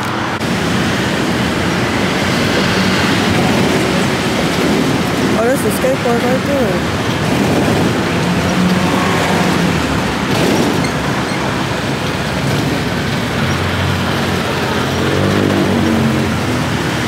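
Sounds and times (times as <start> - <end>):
road and engine noise: 0.0 - 17.0.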